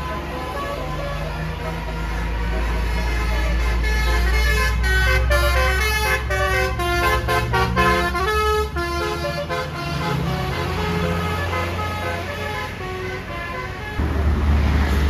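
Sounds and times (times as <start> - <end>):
musical air horn melody: 0.0 - 14.1
bus engine: 0.0 - 15.0.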